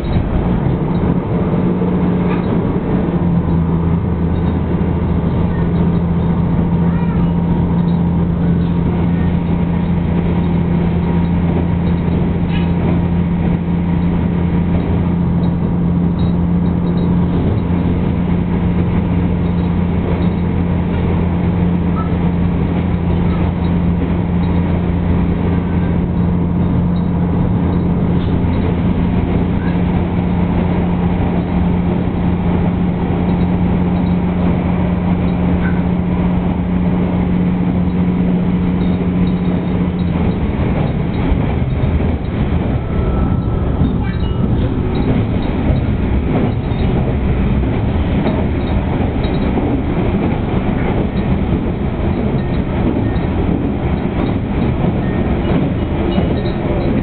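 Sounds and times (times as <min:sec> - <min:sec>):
diesel engine drone: 0:00.0 - 0:57.0
wheels rumbling on rail: 0:00.0 - 0:57.0.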